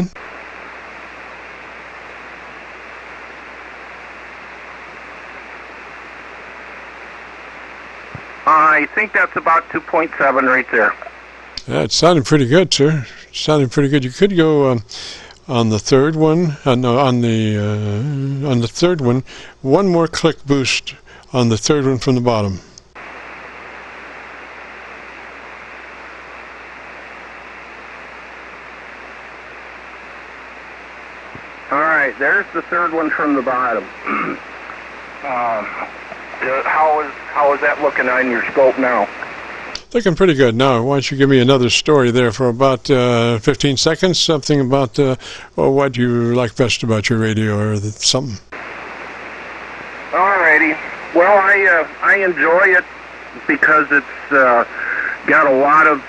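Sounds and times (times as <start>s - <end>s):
radio receiver static hiss: 0.0s - 56.0s.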